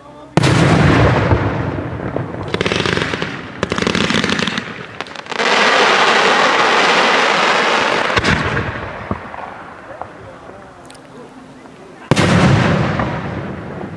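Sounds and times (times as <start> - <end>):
fireworks crackling: 0.3 - 13.9.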